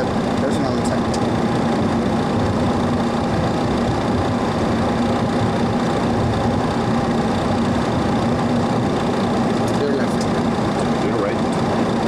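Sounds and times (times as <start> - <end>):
aircraft cockpit drone: 0.0 - 12.0.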